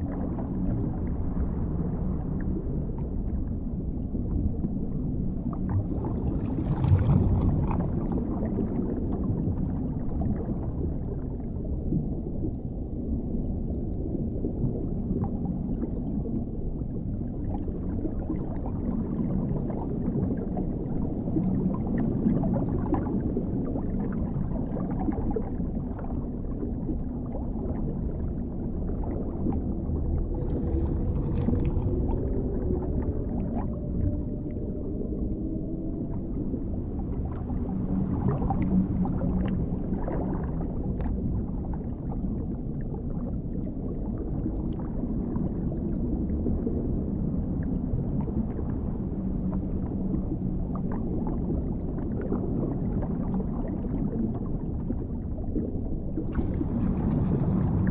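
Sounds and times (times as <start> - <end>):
deep underwater rumble: 0.0 - 57.9.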